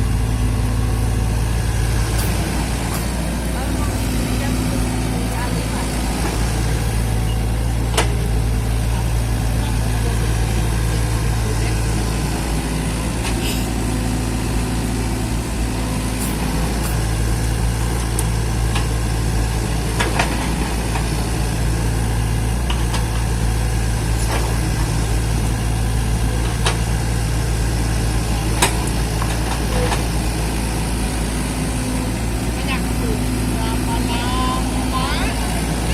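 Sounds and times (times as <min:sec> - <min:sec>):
mini excavator engine idling: 0:00.0 - 0:35.9.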